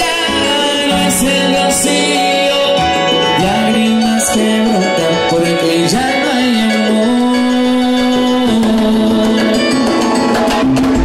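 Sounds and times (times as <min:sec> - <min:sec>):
latin dance band playing: 0:00.0 - 0:11.0
man singing: 0:00.0 - 0:11.0.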